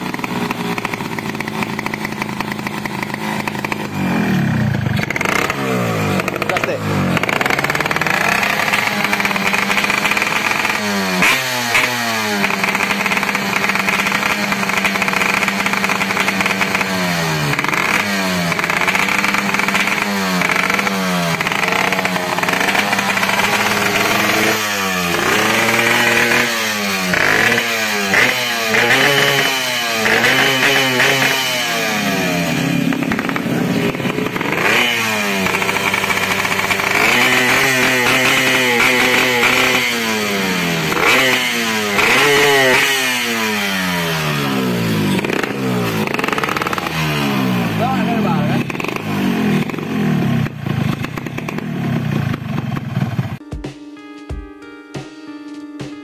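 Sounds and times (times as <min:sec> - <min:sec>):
two-stroke motorcycle engine revving: 0:00.0 - 0:53.4.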